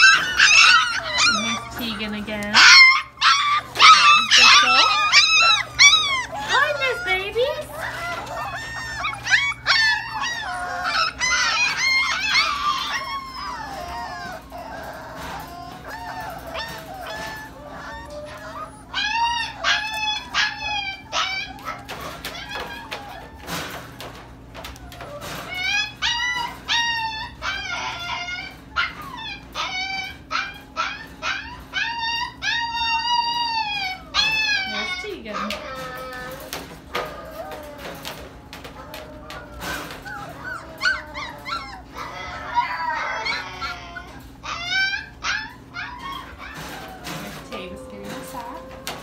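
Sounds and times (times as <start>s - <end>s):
puppies whining and yelping: 0.0s - 49.0s.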